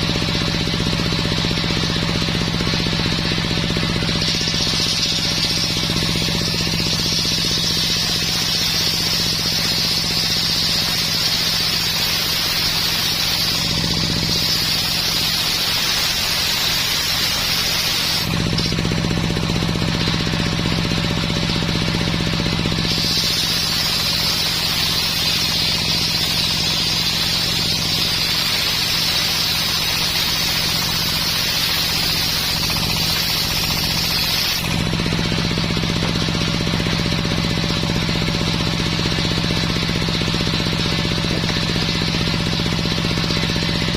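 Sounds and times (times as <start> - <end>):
low drive hum: 0.0 - 15.6, 17.9 - 43.9
saw blade cutting wood: 0.0 - 43.9.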